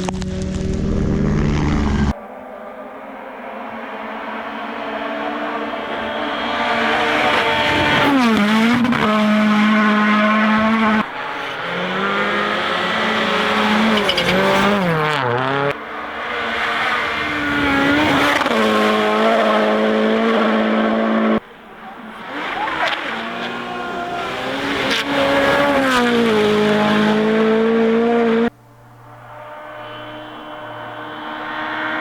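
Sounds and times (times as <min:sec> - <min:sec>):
rally car engines at full throttle: 0:00.0 - 0:32.0.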